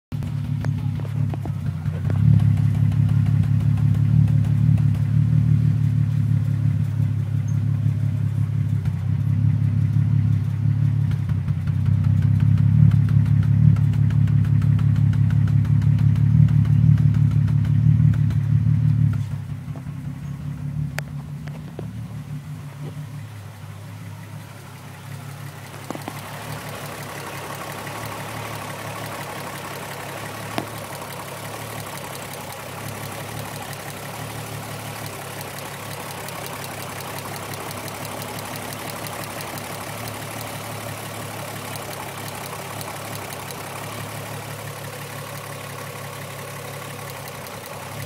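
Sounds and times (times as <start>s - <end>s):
engine running with misfire: 0.1s - 48.0s.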